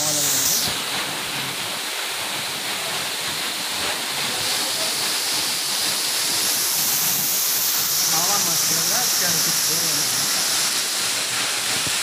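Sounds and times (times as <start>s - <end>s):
waterfall rushing onto rocks: 0.0s - 12.0s.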